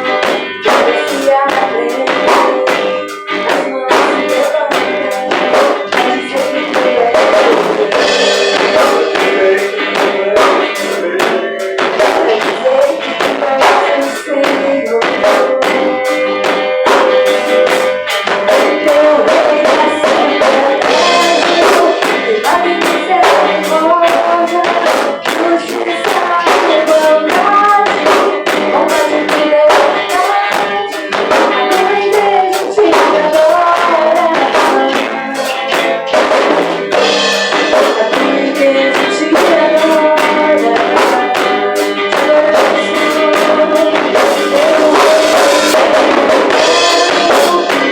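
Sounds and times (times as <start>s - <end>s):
band playing a song: 0.0s - 47.9s
drum kit beat: 0.0s - 47.9s
guitar: 0.0s - 47.9s.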